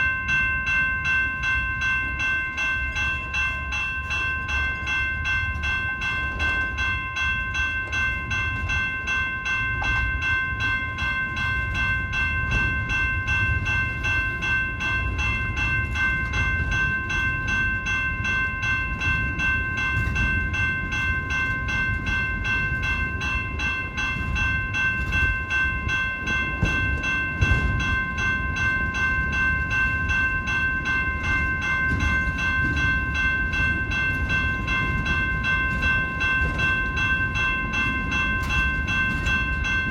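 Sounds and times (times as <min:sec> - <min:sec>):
train cars rumbling: 0:00.0 - 0:39.9.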